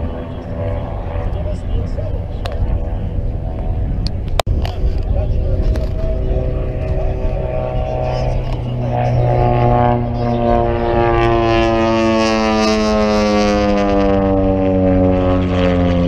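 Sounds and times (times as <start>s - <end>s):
propeller airplane flying past: 0.0s - 16.0s.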